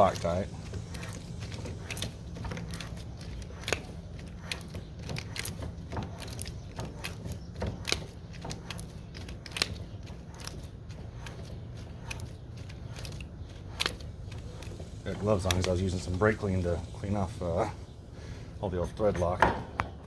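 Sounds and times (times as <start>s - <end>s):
metal parts clicking and ticking: 0.0s - 17.8s
low steady hum: 0.0s - 20.0s.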